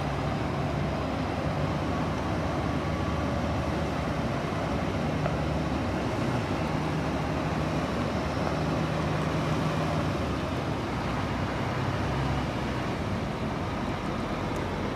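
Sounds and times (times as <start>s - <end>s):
diesel truck engine running: 0.0s - 14.9s.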